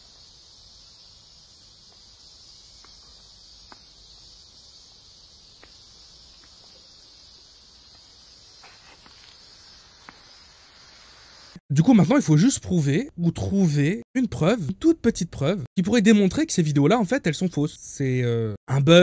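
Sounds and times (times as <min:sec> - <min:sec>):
high-pitched outdoor hiss: 0:00.0 - 0:19.0.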